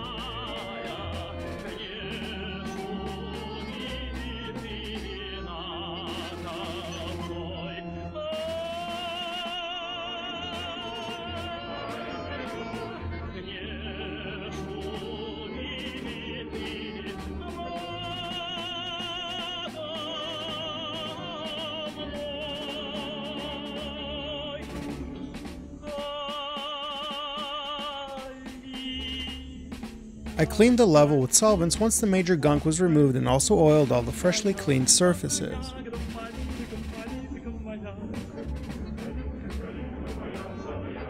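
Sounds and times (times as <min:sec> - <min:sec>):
choir singing operatic style: 0:00.0 - 0:41.0.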